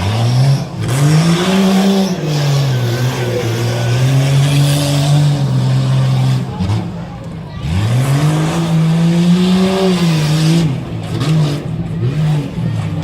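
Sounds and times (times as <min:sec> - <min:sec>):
engine revving hard: 0:00.0 - 0:13.0.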